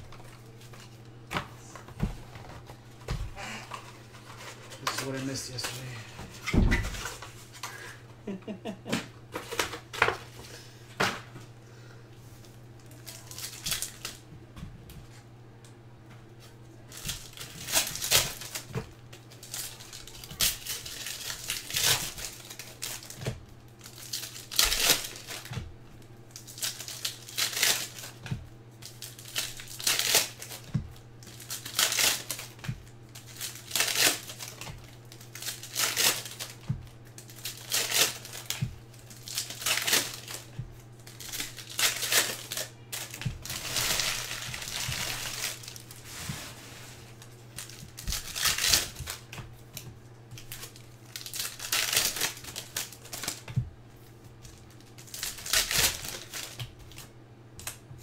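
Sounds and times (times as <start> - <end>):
foil wrappers crinkling and tearing: 0.0 - 8.0, 9.3 - 10.7, 12.4 - 14.3, 16.4 - 57.9
steady low hum: 0.0 - 58.0.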